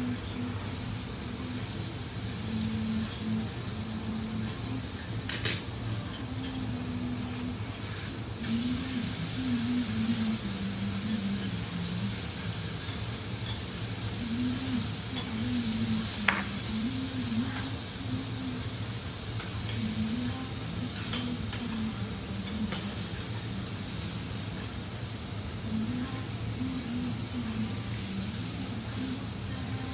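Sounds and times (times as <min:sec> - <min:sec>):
meat sizzling on a griddle: 0:00.0 - 0:29.9.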